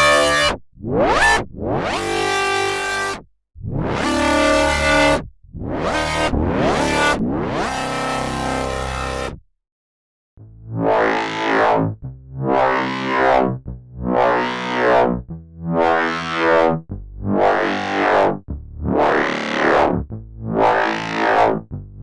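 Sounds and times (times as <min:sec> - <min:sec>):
synthesizer notes with filter sweep: 0:00.0 - 0:09.4, 0:10.7 - 0:13.4, 0:14.0 - 0:15.1, 0:15.7 - 0:16.7, 0:17.3 - 0:21.6.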